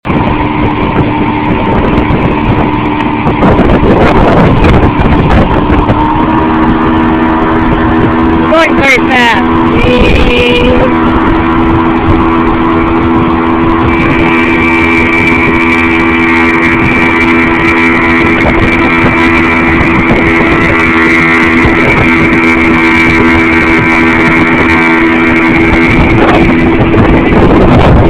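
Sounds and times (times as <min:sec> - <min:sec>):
motorboat engine running: 0:00.0 - 0:28.0
water noise: 0:00.0 - 0:28.0
wind noise: 0:00.0 - 0:28.0.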